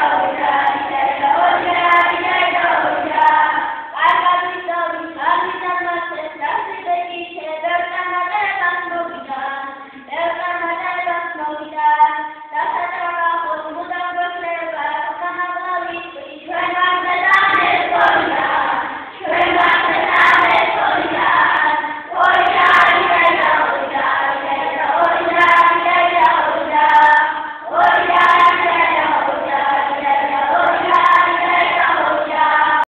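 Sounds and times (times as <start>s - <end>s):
young children singing: 0.0s - 32.9s.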